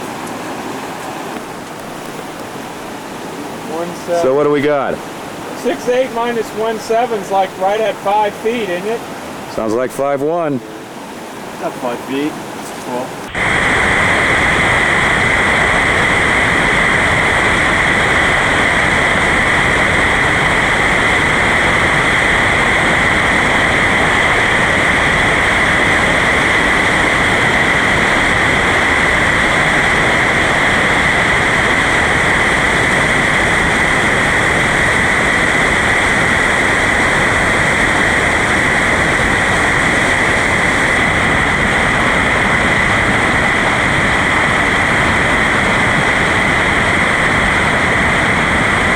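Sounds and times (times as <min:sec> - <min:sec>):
river rushing through rapids: 0:00.0 - 0:48.9.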